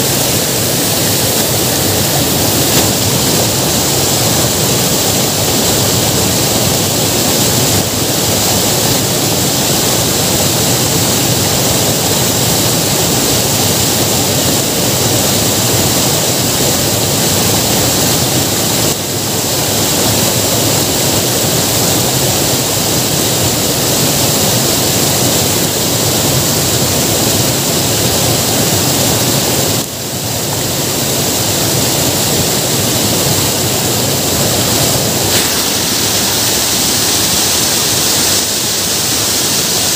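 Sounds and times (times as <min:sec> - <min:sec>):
water rushing over spillway: 0:00.0 - 0:39.9.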